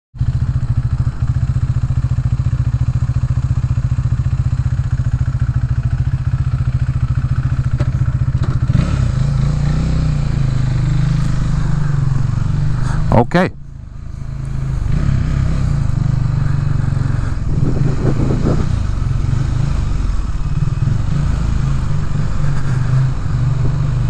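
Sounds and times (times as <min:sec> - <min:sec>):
motorcycle engine idling: 0:00.2 - 0:24.0.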